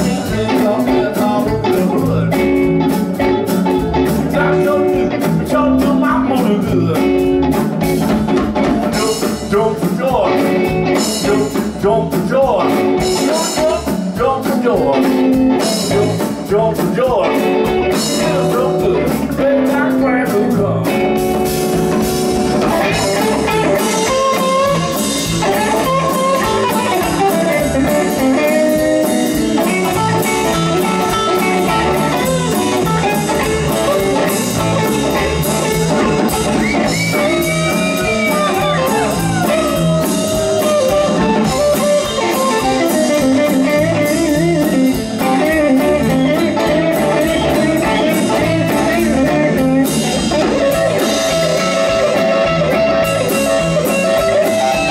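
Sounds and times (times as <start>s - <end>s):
bass guitar: 0.0s - 54.9s
drum kit: 0.0s - 54.9s
electric guitar lead: 0.0s - 54.9s.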